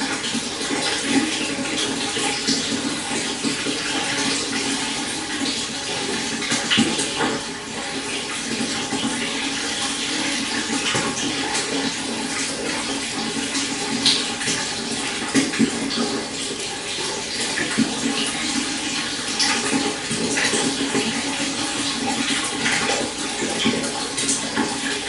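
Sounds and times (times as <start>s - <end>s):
water splashes and gurgles: 0.0s - 25.0s.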